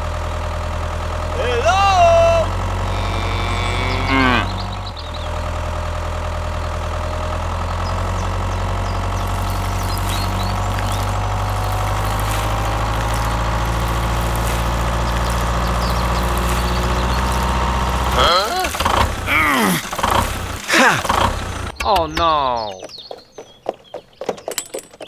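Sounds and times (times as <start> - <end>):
tractor engine idling: 0.0 - 22.8.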